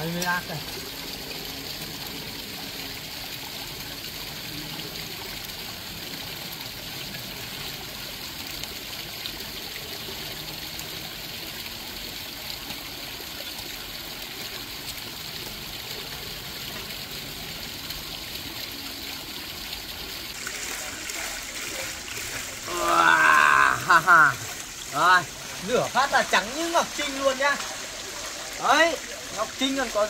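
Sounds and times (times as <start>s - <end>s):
running water trickling: 0.0s - 30.0s.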